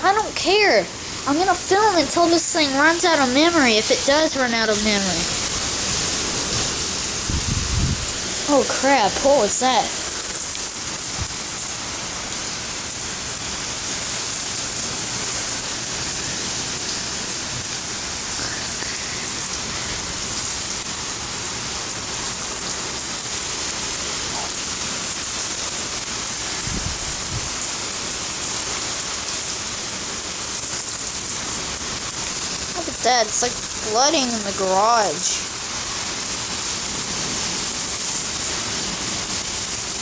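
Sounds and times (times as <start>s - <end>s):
heavy rain on pavement and roofs: 0.0s - 40.0s.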